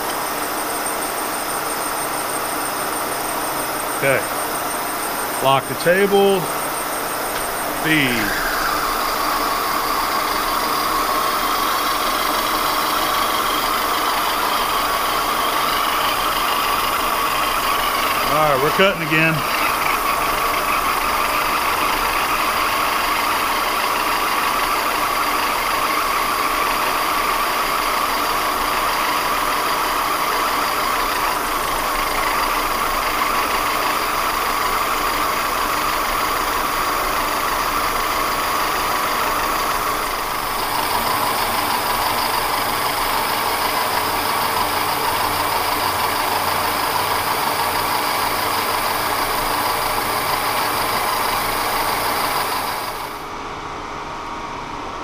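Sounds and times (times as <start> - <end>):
milling machine cutting metal: 1.8 - 23.4, 25.0 - 53.2.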